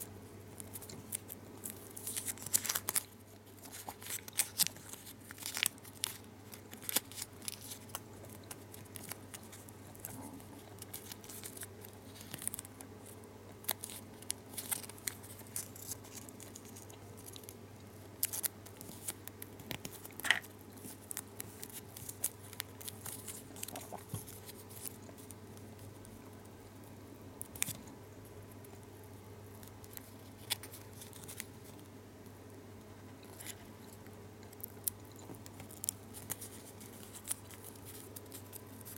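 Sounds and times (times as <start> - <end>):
foil wrapper crinkling: 0.0 - 26.0, 29.6 - 31.8, 34.5 - 38.9
faint steady hum: 0.0 - 38.9.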